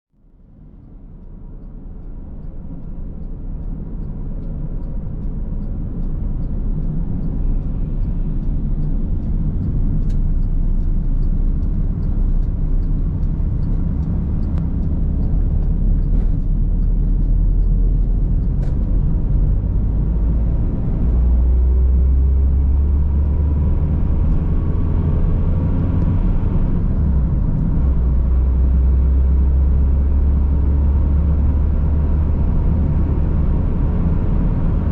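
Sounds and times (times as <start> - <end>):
car tyres and engine rumble: 0.2 - 34.9.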